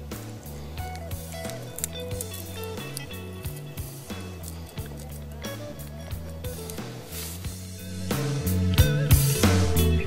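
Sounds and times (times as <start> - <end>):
music with low bass line: 0.0 - 10.0.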